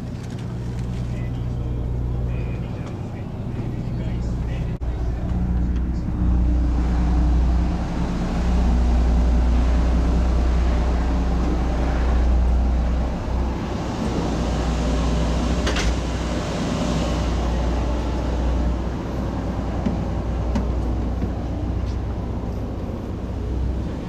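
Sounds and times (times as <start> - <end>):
ship engine rumble and hum: 0.0 - 24.0.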